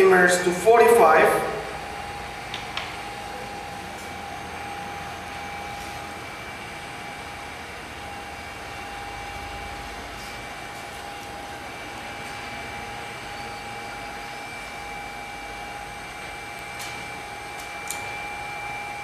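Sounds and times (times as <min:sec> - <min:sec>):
fan hiss and whine: 0:00.0 - 0:19.0.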